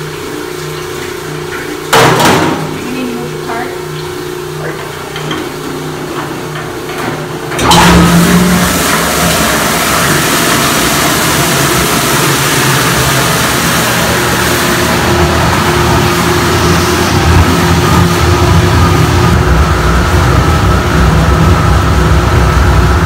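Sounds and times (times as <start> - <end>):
food-waste pulper motor and water rushing: 0.0 - 23.0.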